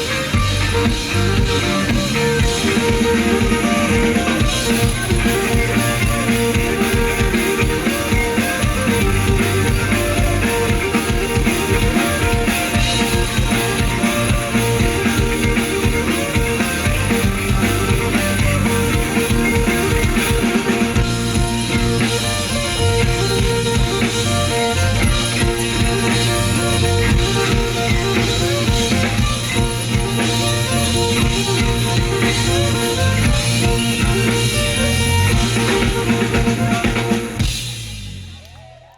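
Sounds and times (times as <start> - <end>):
instrumental rock band playing: 0.0 - 38.4.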